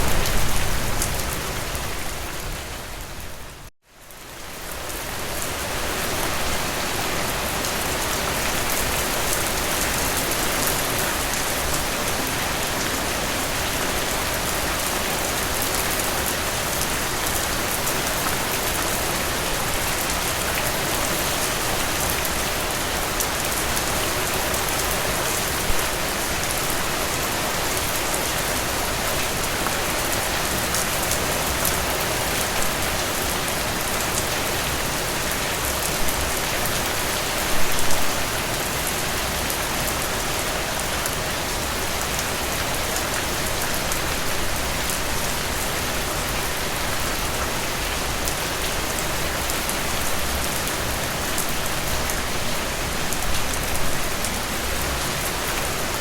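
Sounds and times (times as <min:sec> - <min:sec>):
rain falling through trees: 0:00.0 - 0:56.0.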